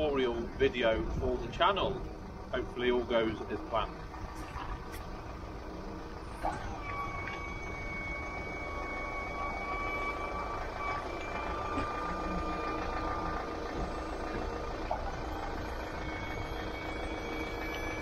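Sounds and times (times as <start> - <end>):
hydraulic lift whining: 0.0 - 18.0.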